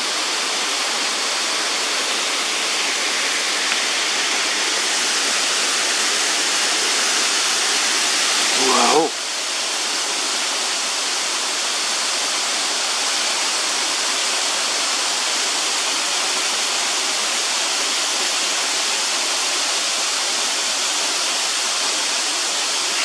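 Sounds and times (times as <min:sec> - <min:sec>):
waterfall rushing and splashing: 0:00.0 - 0:23.0.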